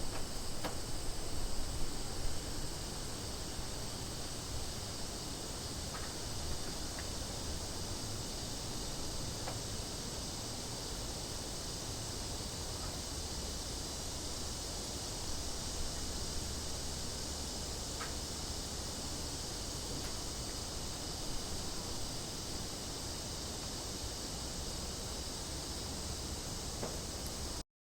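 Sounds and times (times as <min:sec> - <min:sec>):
cicadas buzzing: 0:00.0 - 0:27.6.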